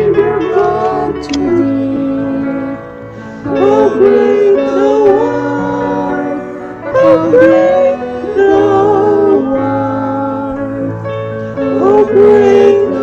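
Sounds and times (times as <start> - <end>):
hymn music: 0.0 - 13.0.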